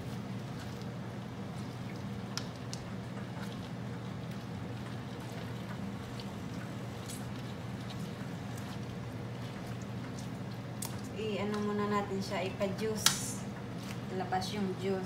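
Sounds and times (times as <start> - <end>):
grapes squishing: 0.0 - 14.8
steady low hum: 0.0 - 15.0.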